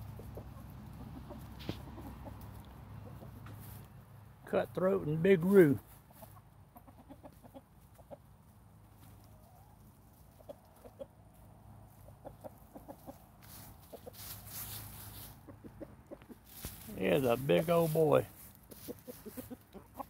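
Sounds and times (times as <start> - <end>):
chickens clucking softly: 0.0 - 3.9, 4.8 - 17.0, 18.4 - 20.0.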